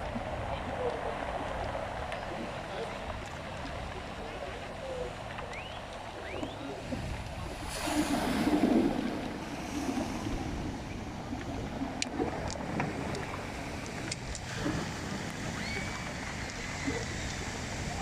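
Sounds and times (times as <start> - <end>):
ocean surf washing on shore: 0.0 - 18.0
wind on microphone: 0.0 - 18.0.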